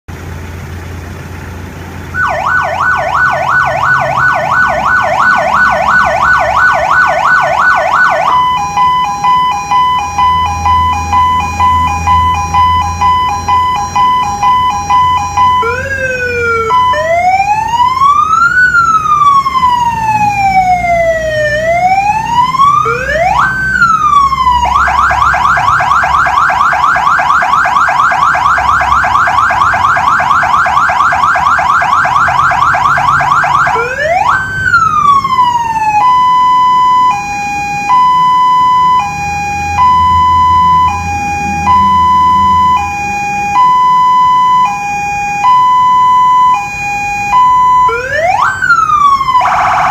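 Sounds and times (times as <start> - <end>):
emergency vehicle siren: 2.1 - 49.9.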